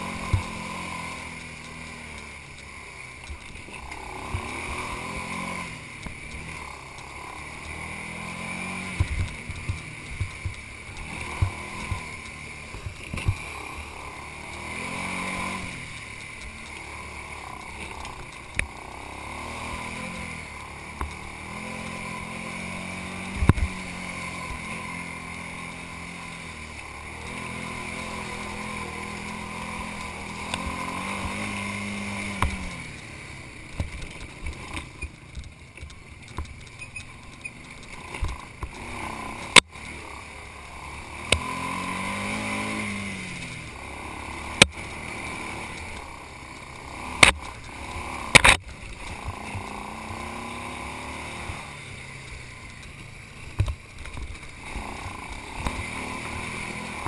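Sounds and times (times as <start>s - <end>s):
atv engine revving: 0.0s - 57.0s
brush striking vehicle: 0.0s - 57.0s.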